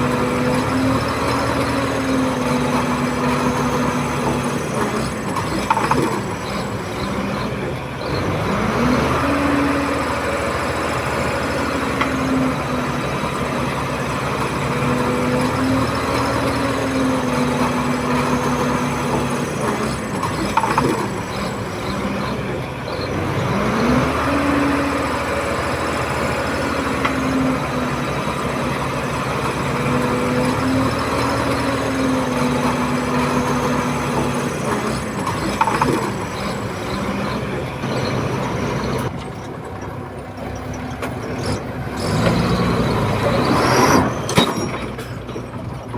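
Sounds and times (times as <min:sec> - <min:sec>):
bulldozer diesel engine revving: 0:00.0 - 0:45.9.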